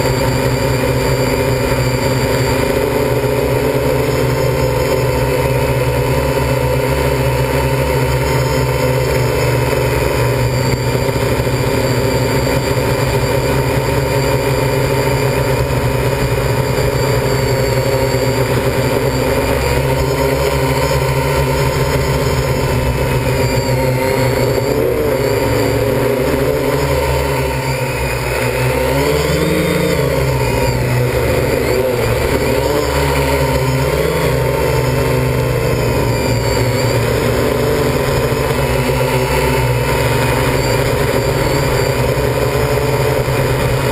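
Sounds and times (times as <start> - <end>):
drone propellers whirring: 0.0 - 43.9.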